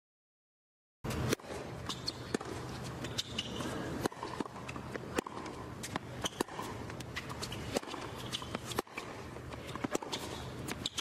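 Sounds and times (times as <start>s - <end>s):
steady background hum: 1.1s - 11.0s
tennis racket hitting ball: 1.1s - 11.0s.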